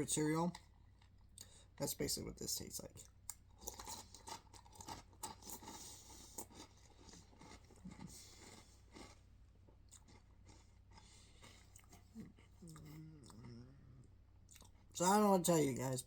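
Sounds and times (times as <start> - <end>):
crunching and chewing cereal: 0.0 - 15.5.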